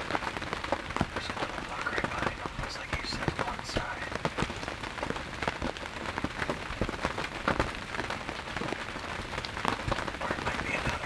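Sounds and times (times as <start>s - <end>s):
raindrops pattering: 0.0s - 11.0s
steady rain: 0.0s - 11.0s.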